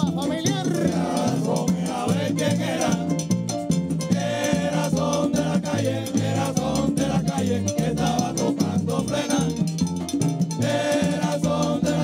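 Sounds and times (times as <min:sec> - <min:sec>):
voices singing: 0:00.0 - 0:03.3, 0:04.1 - 0:09.7, 0:10.6 - 0:12.0
bass line: 0:00.0 - 0:12.0
guiro scraping rhythm: 0:00.0 - 0:12.0
hand frame drums: 0:00.0 - 0:12.0.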